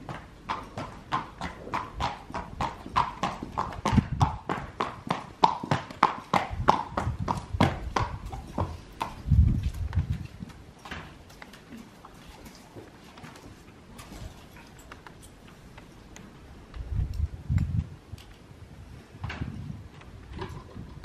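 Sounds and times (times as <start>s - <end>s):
horse hooves on concrete: 0.0s - 21.0s.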